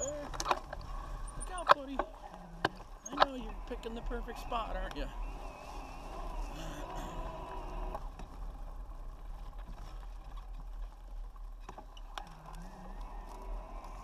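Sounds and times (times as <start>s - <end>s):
bike clicks and rattles: 0.0s - 4.1s, 4.9s - 14.0s
bike tyres rolling over leaves: 0.0s - 14.0s.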